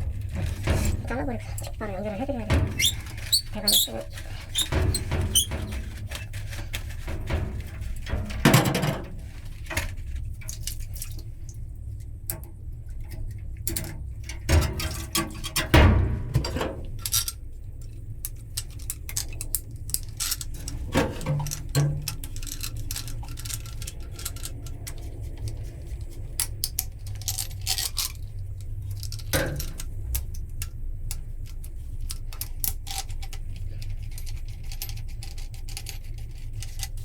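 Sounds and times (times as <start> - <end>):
tools and pipe clattering: 0.0 - 11.4, 12.0 - 37.0
steady low hum: 0.0 - 37.0.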